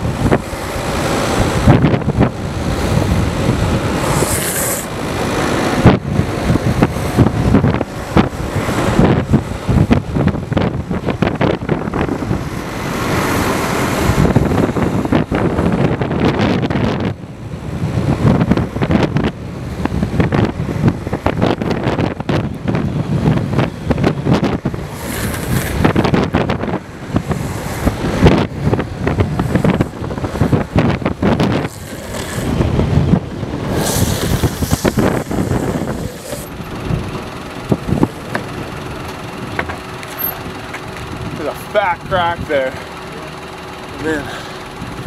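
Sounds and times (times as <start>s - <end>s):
longboard wheels rolling on asphalt: 0.0s - 45.0s
wind buffeting microphone: 0.0s - 45.0s.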